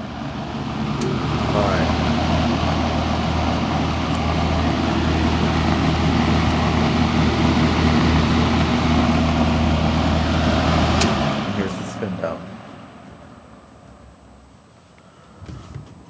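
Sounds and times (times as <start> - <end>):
box fan running: 0.0 - 16.0.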